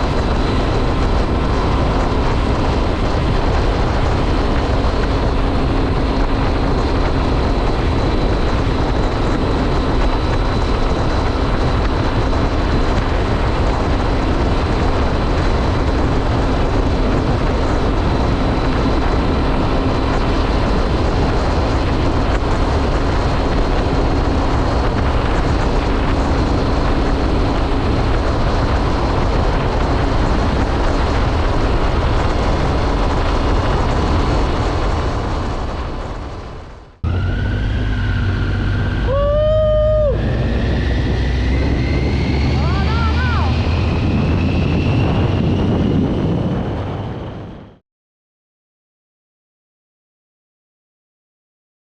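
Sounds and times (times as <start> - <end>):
motorcycle engine cruising: 0.0 - 47.8
wind rushing over microphone: 0.0 - 47.8.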